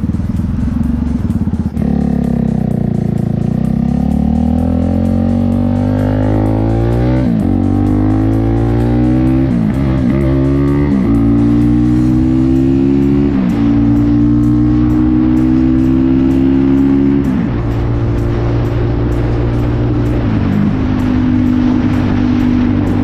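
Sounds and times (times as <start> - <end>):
motorcycle engine accelerating: 0.0 - 23.0
rock music: 0.0 - 23.0.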